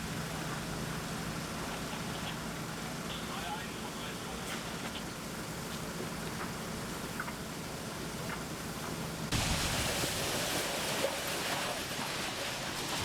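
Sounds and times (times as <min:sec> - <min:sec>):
large fire roaring: 0:00.0 - 0:13.0.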